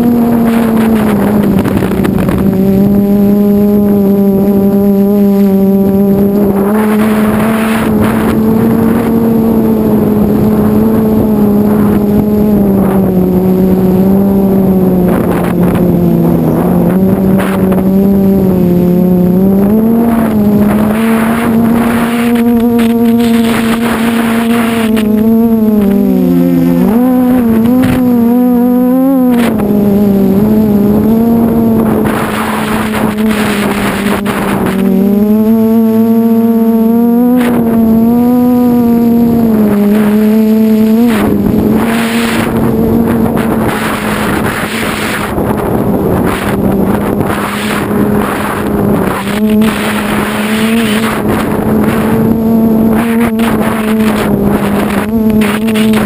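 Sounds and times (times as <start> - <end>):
quadcopter propellers buzzing: 0.0 - 56.0
wind on microphone: 0.0 - 56.0.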